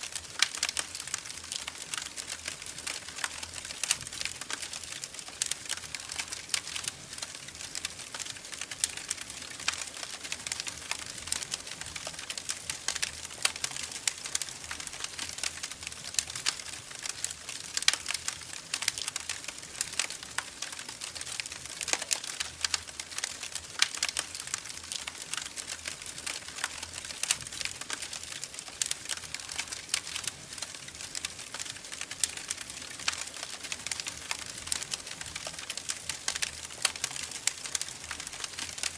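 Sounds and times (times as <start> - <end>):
soft steady hiss: 0.0 - 38.9
wood fire crackling: 0.0 - 38.9.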